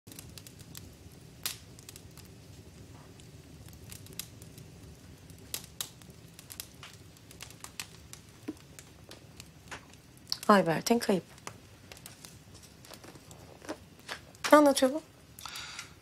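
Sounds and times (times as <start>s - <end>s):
wood fire crackling and popping: 0.1s - 16.0s.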